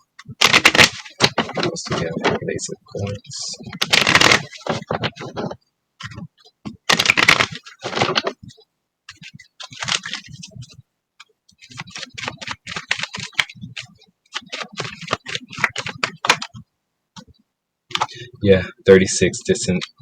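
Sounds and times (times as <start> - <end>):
rapid light clicks and taps: 0.0 - 18.2.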